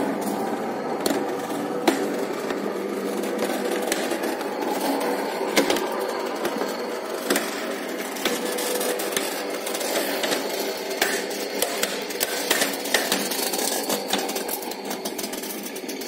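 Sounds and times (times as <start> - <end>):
roller shutter motor running: 0.0 - 16.0.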